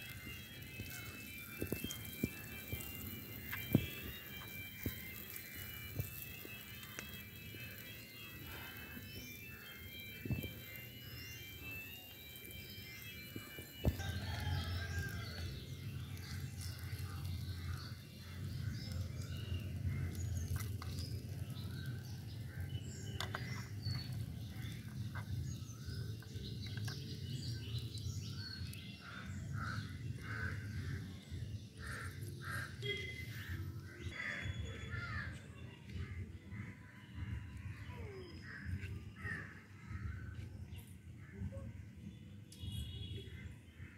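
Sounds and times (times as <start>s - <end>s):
small birds chirping: 0.0s - 43.2s.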